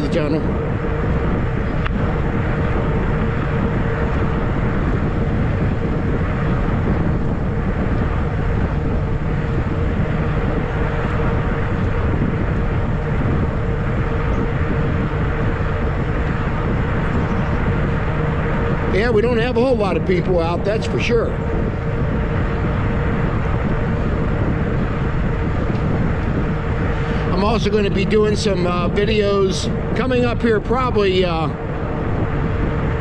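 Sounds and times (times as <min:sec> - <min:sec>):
electric bike humming: 0:00.0 - 0:33.0
wind noise on microphone: 0:00.0 - 0:33.0.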